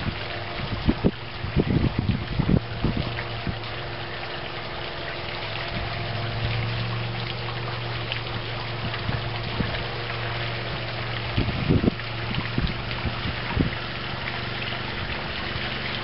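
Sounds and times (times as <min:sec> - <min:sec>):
boat motor idling: 0:00.0 - 0:16.0.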